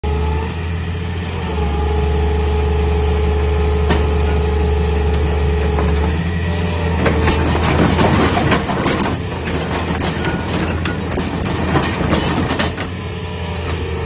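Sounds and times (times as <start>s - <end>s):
excavator diesel engine under load: 0.0s - 14.0s
hydraulic whine: 0.0s - 14.0s.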